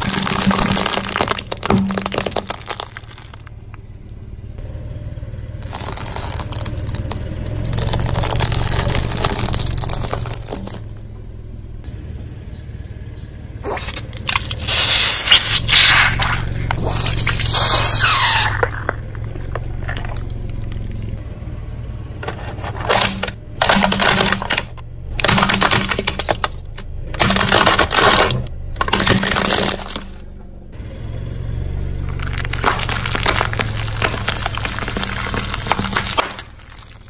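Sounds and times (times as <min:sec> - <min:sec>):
tyre crunching brittle objects: 0:00.0 - 0:03.8, 0:05.6 - 0:11.4, 0:13.6 - 0:21.2, 0:22.2 - 0:30.3, 0:32.0 - 0:37.0
car engine running: 0:00.0 - 0:37.0.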